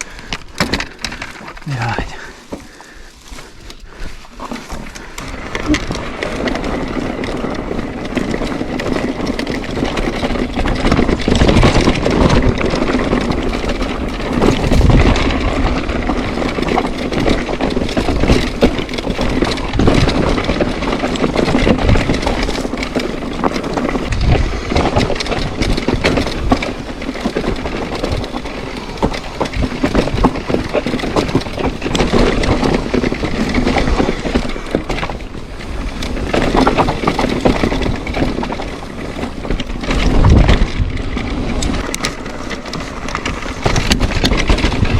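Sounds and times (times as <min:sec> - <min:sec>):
bike rattling over rocks: 0:00.0 - 0:44.9
wind rumble on microphone: 0:00.0 - 0:44.9.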